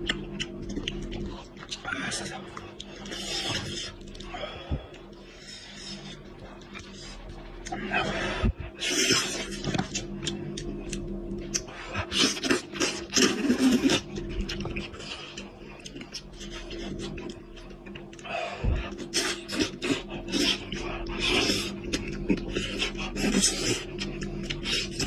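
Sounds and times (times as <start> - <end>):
chewing and slurping: 0.0 - 25.0
faint steady hum: 0.0 - 25.0.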